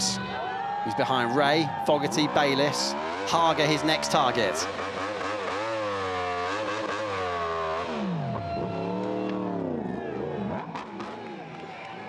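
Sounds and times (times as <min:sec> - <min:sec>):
motorcycle engine revving: 0:02.1 - 0:12.0.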